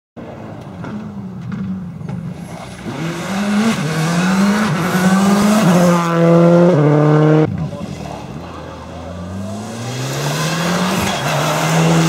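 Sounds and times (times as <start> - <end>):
rally car engine accelerating: 0.2 - 12.0.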